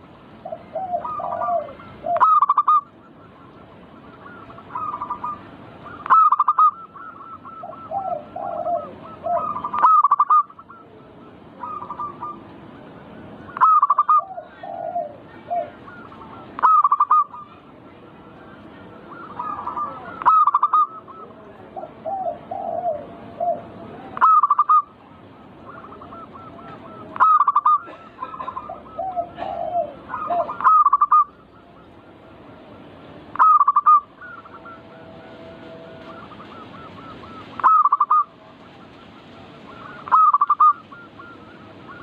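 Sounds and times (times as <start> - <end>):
doves cooing: 0.0 - 42.0.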